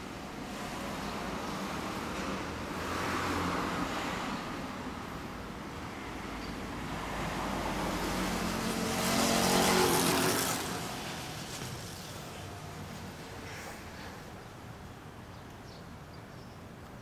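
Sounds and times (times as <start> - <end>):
traffic noise: 0.0 - 17.0
vehicle passing: 0.4 - 14.4.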